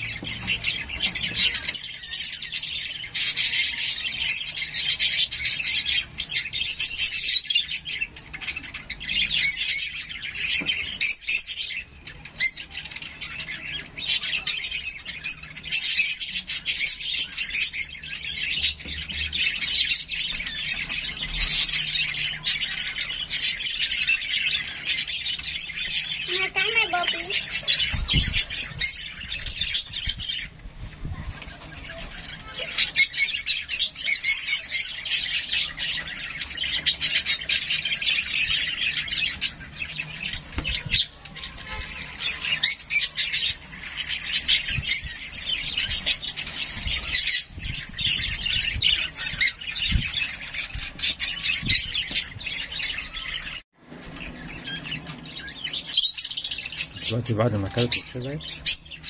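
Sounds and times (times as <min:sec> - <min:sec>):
baby parrot chirping: 0:00.0 - 0:53.6.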